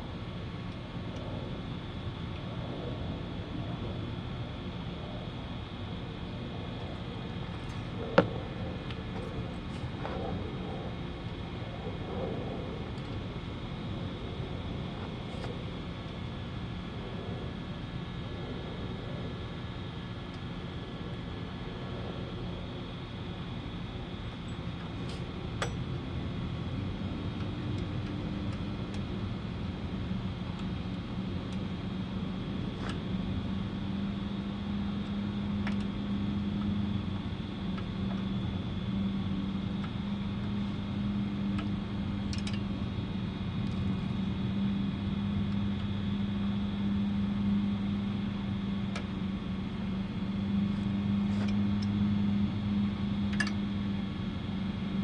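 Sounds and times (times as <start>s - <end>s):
steady machine drone: 0.0s - 55.0s.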